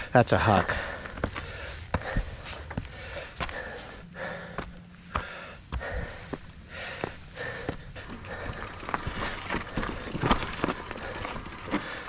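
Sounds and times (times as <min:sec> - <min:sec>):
person breathing hard: 0:00.0 - 0:12.0
footsteps on rocky ground: 0:00.3 - 0:12.0.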